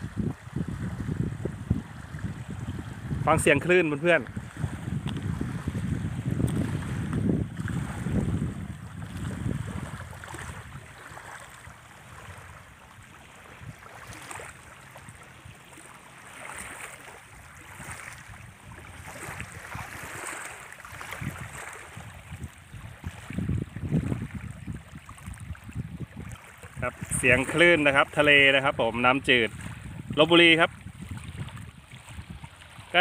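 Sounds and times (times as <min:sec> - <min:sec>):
small waves lapping on shore: 0:00.0 - 0:33.0.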